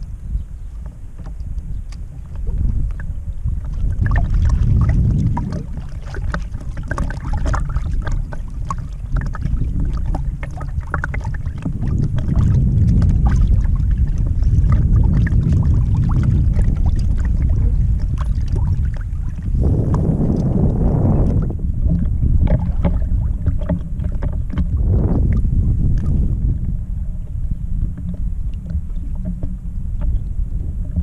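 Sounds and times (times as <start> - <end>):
waves lapping against boat hull: 0.0 - 31.0
wind buffeting microphone: 0.0 - 31.0.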